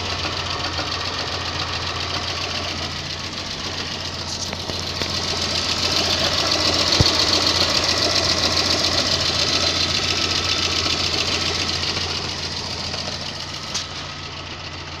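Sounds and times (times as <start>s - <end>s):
car engine running: 0.0s - 15.0s
fast even engine knocking: 0.0s - 15.0s.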